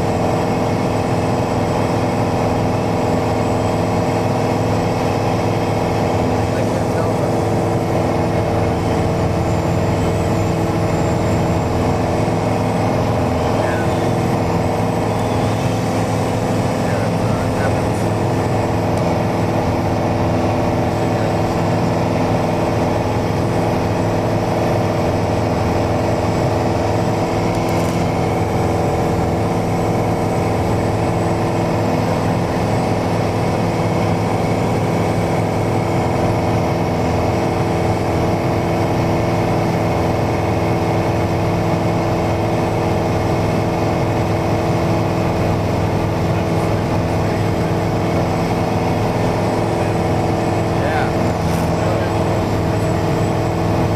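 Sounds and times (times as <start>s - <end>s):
light aircraft engine and propeller: 0.0s - 53.9s.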